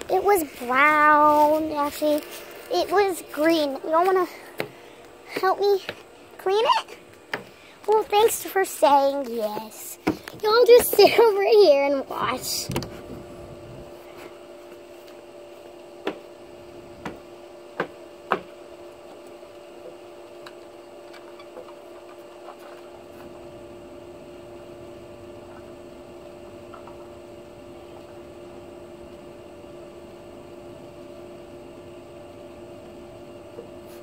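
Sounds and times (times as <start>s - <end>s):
steady two-tone hum: 0.0s - 34.0s.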